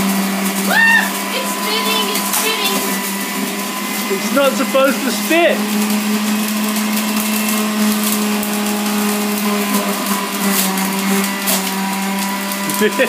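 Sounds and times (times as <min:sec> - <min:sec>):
juicer motor whirring: 0:00.0 - 0:13.0.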